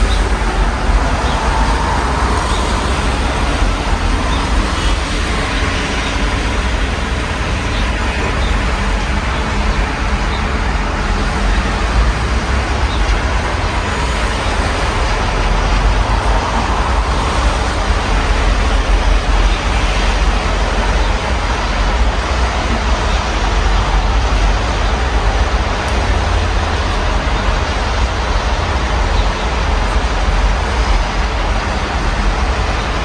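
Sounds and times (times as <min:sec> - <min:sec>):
city road traffic: 0:00.0 - 0:33.0
steady rain: 0:00.0 - 0:33.0.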